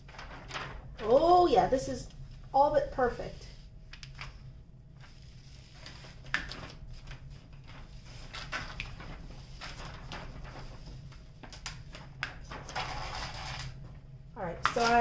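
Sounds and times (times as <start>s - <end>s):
release paper rustling and crinkling: 0.0s - 13.9s.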